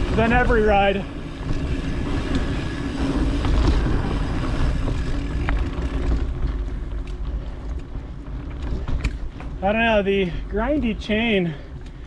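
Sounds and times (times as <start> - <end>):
bike clicks: 0.0 - 12.0
bike tyre and drivetrain noise: 0.0 - 12.0
wind rumble on microphone: 0.0 - 12.0.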